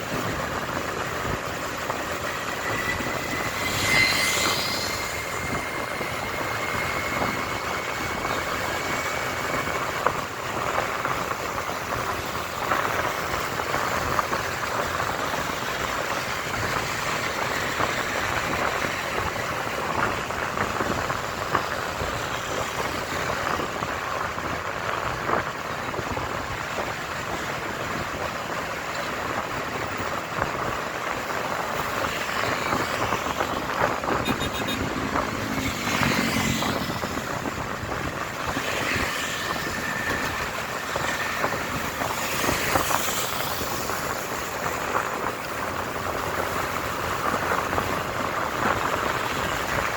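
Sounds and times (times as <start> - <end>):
road and wind noise: 0.0 - 49.9.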